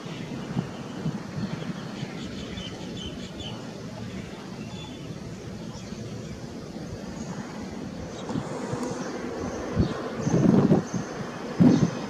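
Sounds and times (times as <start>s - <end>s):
low outdoor rumble: 0.0s - 12.0s
wind buffeting microphone: 0.0s - 12.0s.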